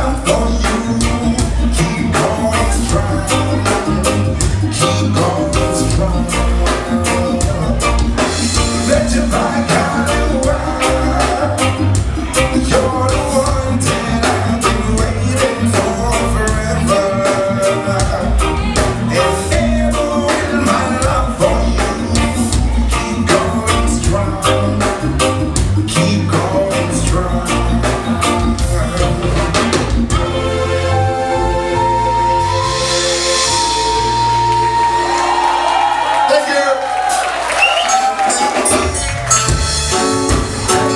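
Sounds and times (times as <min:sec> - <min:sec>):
steady drum beat: 0:00.0 - 0:30.8, 0:38.2 - 0:40.9
band music: 0:00.0 - 0:40.9.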